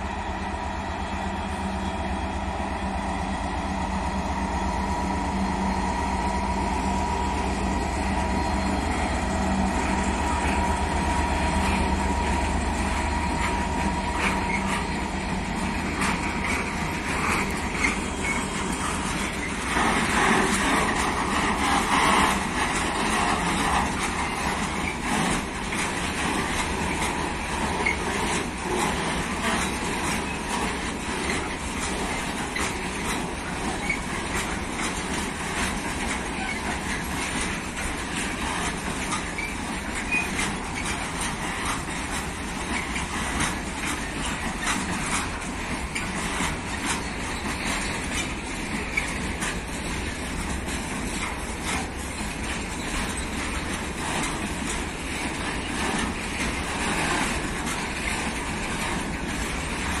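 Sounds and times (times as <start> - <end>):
train wheels clicking on rails: 0.0 - 60.0.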